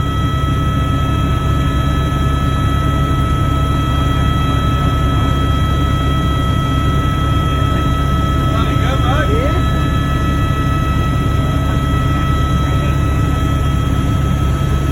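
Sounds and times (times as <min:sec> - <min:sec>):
helicopter drone: 0:00.0 - 0:14.9.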